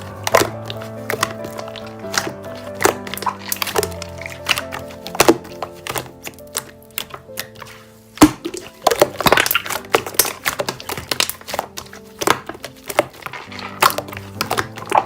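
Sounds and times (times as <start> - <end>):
background music: 0.0 - 15.0
slime crackling and popping: 0.0 - 15.0.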